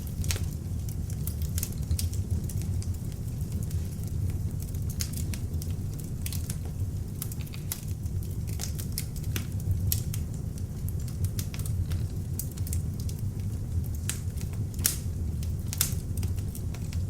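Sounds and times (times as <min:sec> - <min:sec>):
log fire crackling and popping: 0:00.0 - 0:17.0
low rumble of flames: 0:00.0 - 0:17.0.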